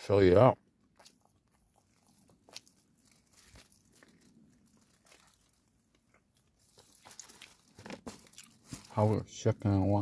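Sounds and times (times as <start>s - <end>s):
plastic bag crinkling: 0.9s - 9.2s.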